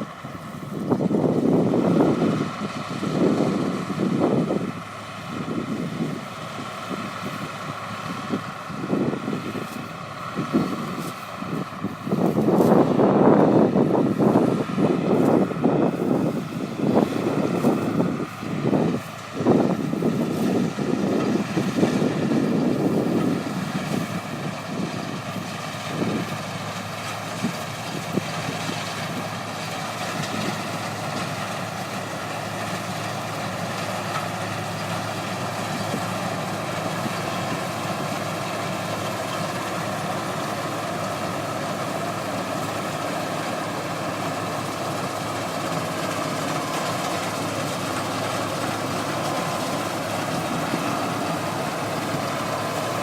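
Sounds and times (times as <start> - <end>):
combine harvester engine drone: 0.0 - 53.0
machinery whine: 0.0 - 53.0.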